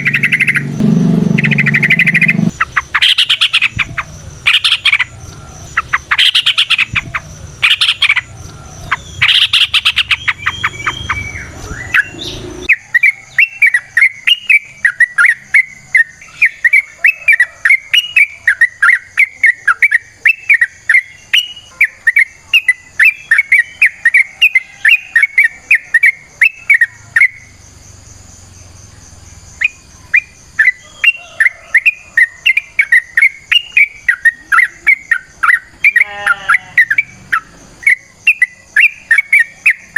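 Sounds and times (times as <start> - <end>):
bird harsh chattering: 0.0 - 26.9, 29.6 - 39.9
bird chirping: 0.0 - 39.9.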